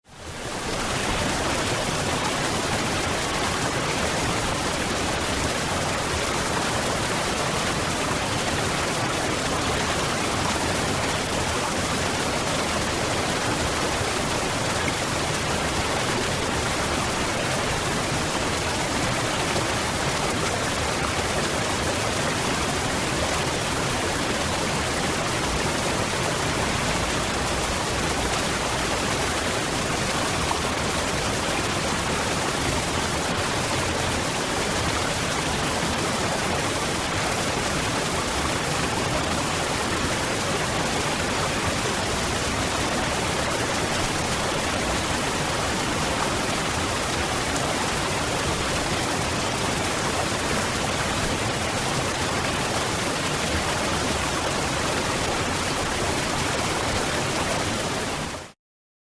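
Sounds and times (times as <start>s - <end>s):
waterfall rushing: 0.2s - 58.4s.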